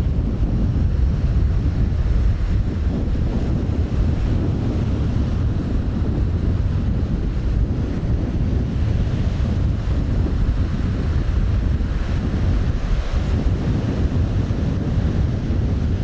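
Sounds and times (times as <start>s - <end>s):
waves in rough sea: 0.0s - 16.0s
wind buffeting microphone: 0.0s - 16.0s.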